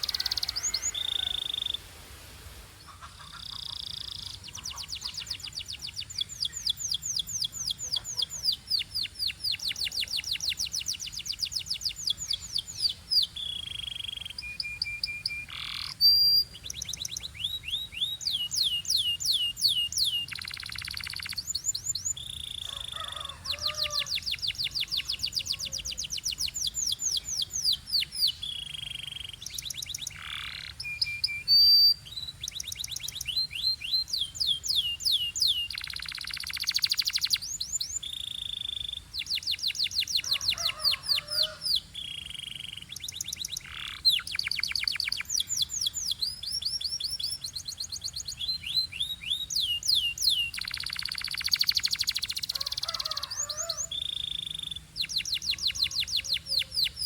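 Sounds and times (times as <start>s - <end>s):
canary singing trills: 0.0s - 1.9s, 2.8s - 57.0s.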